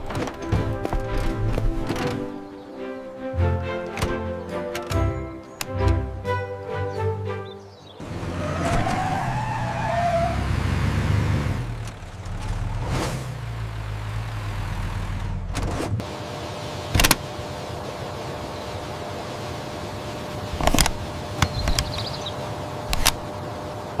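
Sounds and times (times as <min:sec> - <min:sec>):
vehicle engine running: 0:00.0 - 0:02.7, 0:07.4 - 0:24.0.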